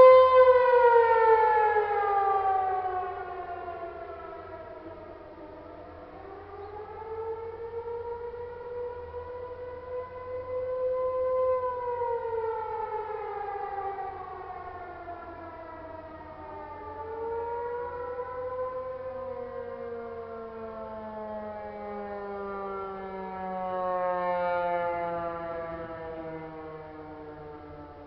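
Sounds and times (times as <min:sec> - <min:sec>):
warning siren wailing: 0:00.0 - 0:28.0.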